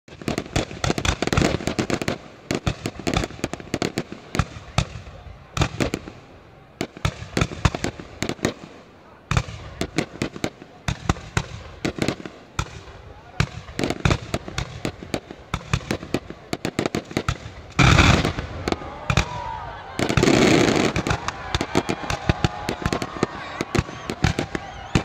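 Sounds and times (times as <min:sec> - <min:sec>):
fireworks bangs and crackling: 0:00.1 - 0:25.0.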